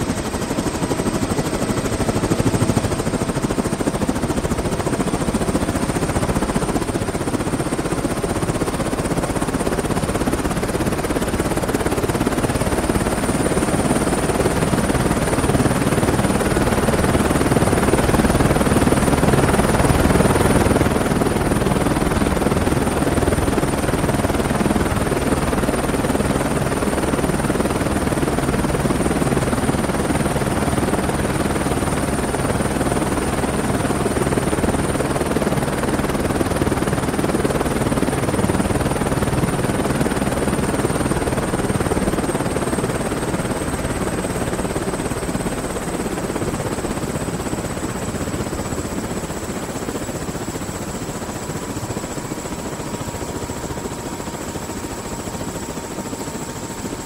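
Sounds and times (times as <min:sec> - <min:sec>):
helicopter rotor and engine: 0:00.0 - 0:57.0.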